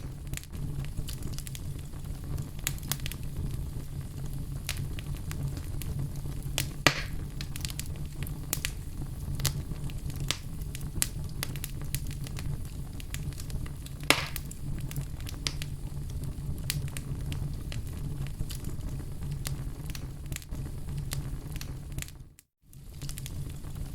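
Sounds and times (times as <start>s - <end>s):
loud fire pops: 0.0s - 23.9s
wood fire crackling: 0.0s - 23.9s.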